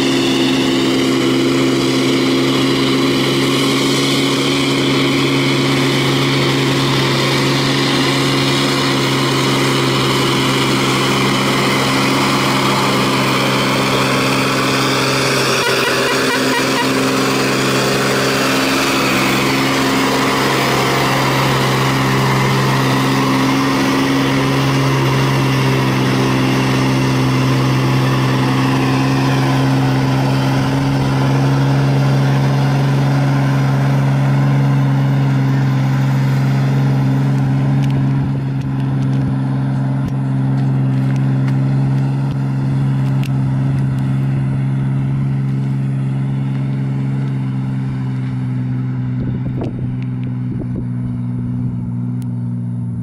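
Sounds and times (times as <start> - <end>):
diesel truck engine droning: 0.0 - 53.0
road and tyre noise: 0.0 - 53.0.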